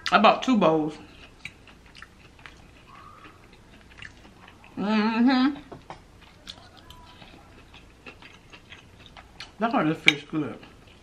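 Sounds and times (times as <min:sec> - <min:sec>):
soft chewing: 0:00.0 - 0:04.9, 0:05.5 - 0:11.0.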